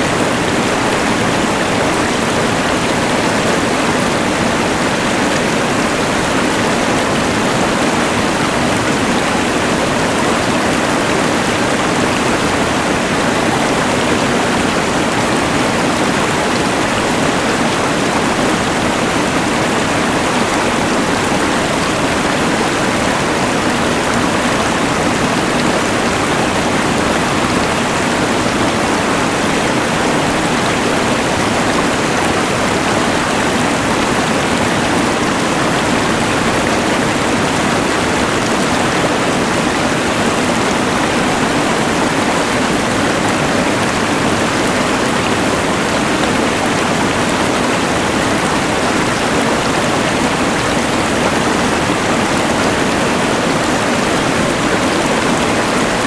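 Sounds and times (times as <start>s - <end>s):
rushing river and white noise: 0.0s - 56.0s.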